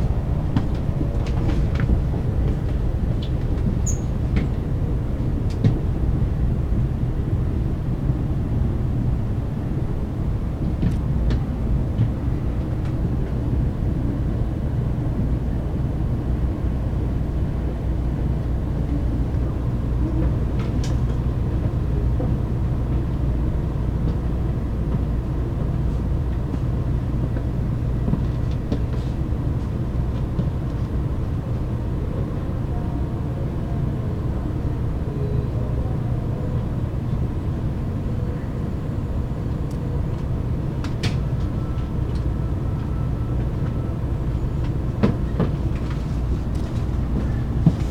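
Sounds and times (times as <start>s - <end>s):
train low rumble: 0.0s - 47.9s.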